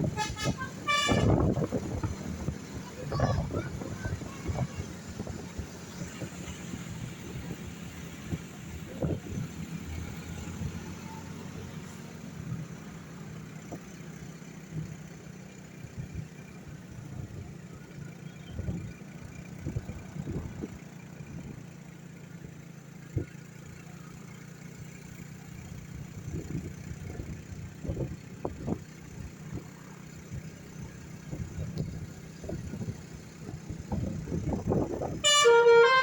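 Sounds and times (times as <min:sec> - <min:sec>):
engine running at low revs: 0:00.0 - 0:36.0.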